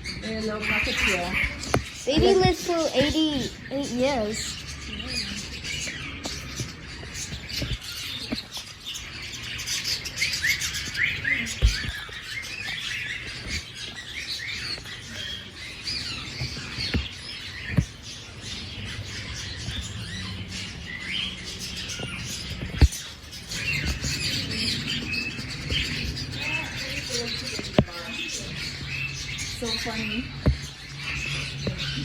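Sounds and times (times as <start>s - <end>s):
birds chirping and squawking: 0.0s - 32.0s.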